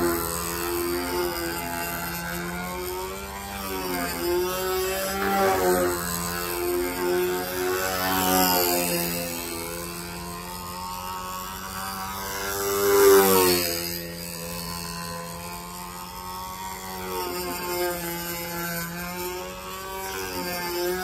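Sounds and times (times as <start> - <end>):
model airplane motor droning: 0.0 - 21.0.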